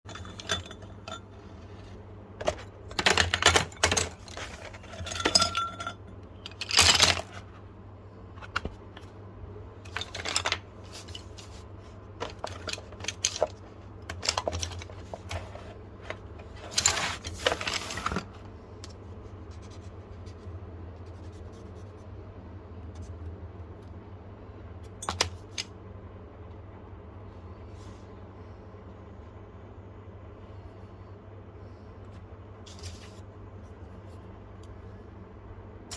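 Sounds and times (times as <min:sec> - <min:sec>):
steady low hum: 0:00.1 - 0:35.9.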